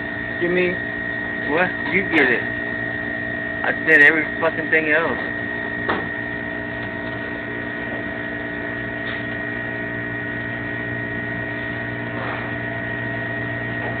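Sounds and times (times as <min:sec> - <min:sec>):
refrigeration unit humming: 0:00.0 - 0:14.0.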